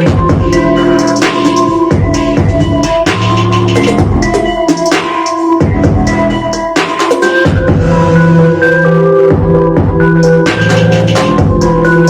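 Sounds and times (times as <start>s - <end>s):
electronic music through speaker: 0.0s - 12.0s.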